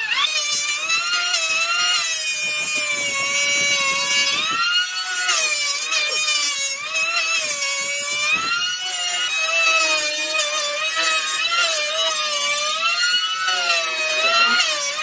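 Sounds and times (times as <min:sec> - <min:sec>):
power tool motor whine: 0:00.0 - 0:15.0
rough wood cutting noise: 0:00.0 - 0:15.0.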